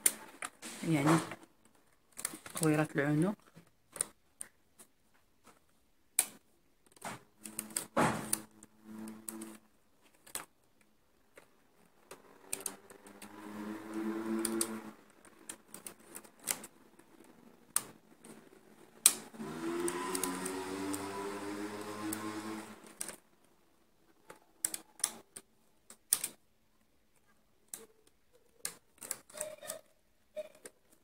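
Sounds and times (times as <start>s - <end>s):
knitting machine needles clicking: 0.0s - 4.9s, 6.1s - 26.5s, 27.1s - 31.0s.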